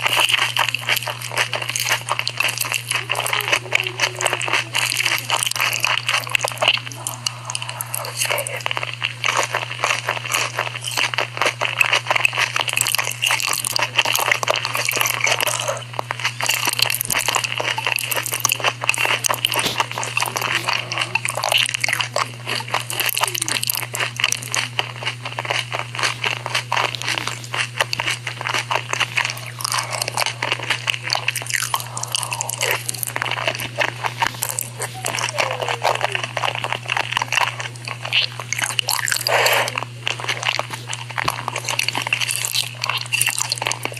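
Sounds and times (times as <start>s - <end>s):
crunchy biting and chewing: 0.0s - 43.9s
steady low hum: 0.0s - 43.9s.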